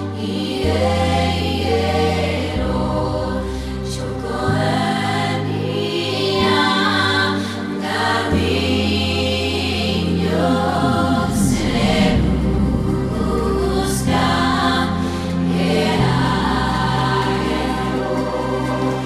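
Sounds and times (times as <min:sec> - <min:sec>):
choir singing sustained chords: 0:00.0 - 0:19.0.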